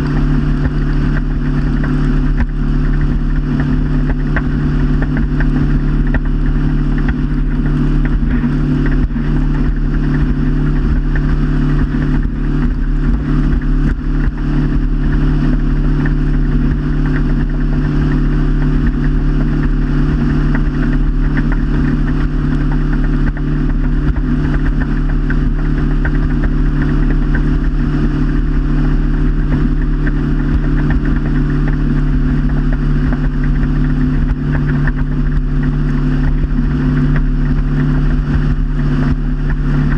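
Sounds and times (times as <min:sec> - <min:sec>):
motorboat engine droning: 0:00.0 - 0:39.9
rushing wind and water: 0:00.0 - 0:39.9.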